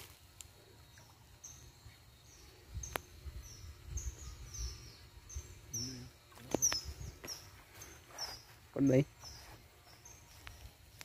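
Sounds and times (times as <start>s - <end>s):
bird chirping: 0.8s - 11.0s.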